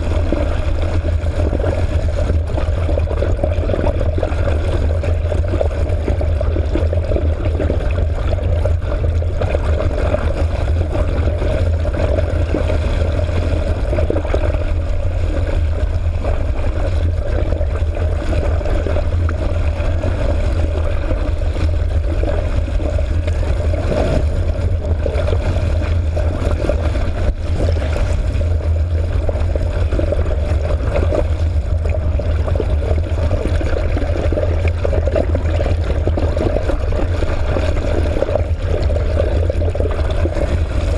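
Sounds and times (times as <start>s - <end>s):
water rushing underwater: 0.0s - 40.9s.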